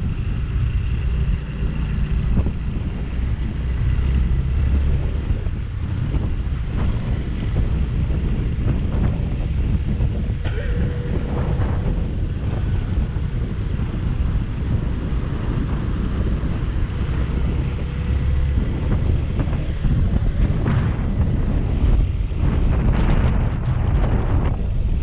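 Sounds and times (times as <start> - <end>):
low motorcycle rumble: 0.0 - 25.0
wind rushing on microphone: 0.0 - 25.0.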